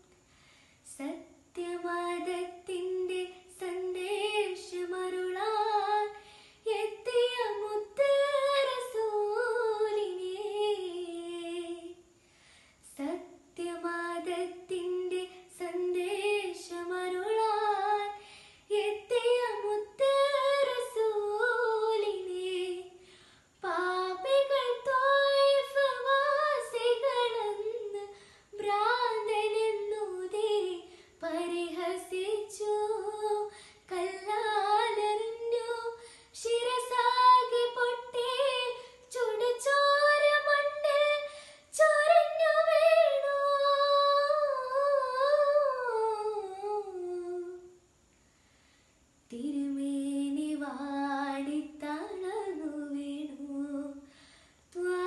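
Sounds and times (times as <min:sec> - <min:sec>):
girl singing unaccompanied: 0:00.8 - 0:48.1, 0:49.2 - 0:55.0.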